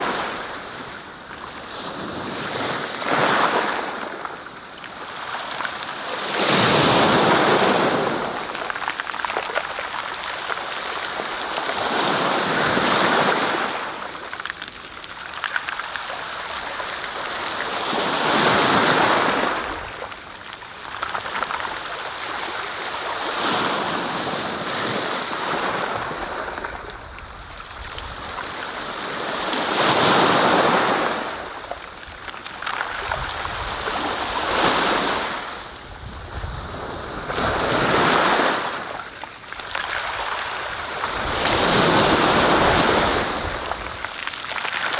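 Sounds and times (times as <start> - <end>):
waves breaking: 0.0 - 44.9.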